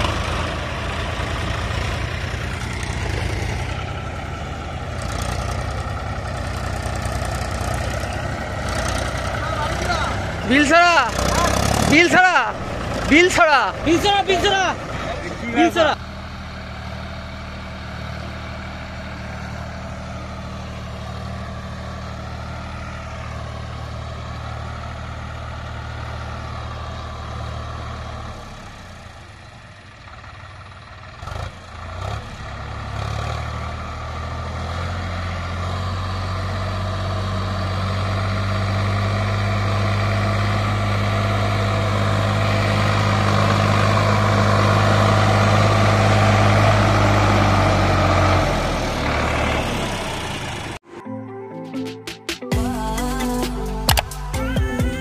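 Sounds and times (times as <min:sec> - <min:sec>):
tractor diesel engine running: 0:00.0 - 0:50.9, 0:52.5 - 0:55.0.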